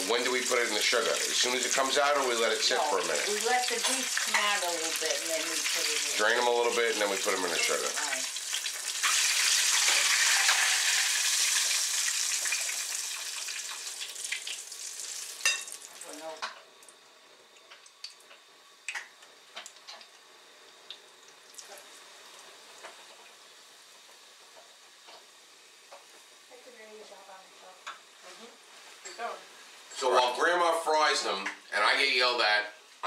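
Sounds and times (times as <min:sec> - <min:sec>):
food sizzling in hot fat: 0:00.0 - 0:33.0.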